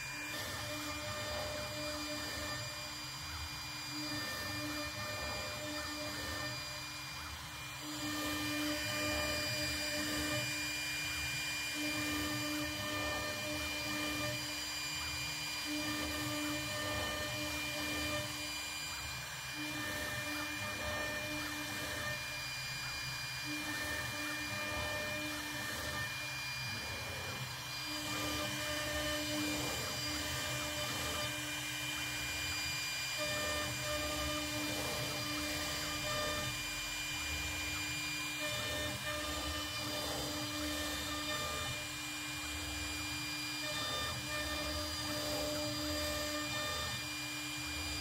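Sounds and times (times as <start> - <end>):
axis drive motor tone: 0.0 - 48.0
router spindle whine: 0.0 - 48.0.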